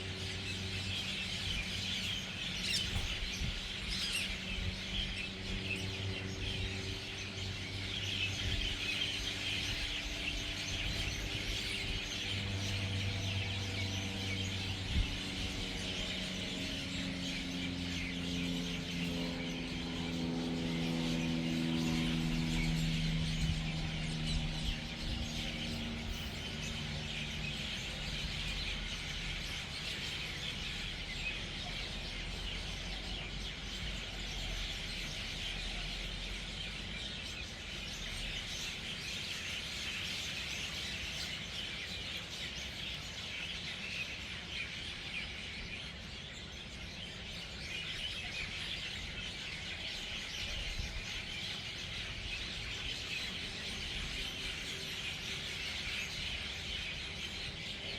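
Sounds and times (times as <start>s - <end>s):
flock of birds chirping: 0.0s - 57.9s.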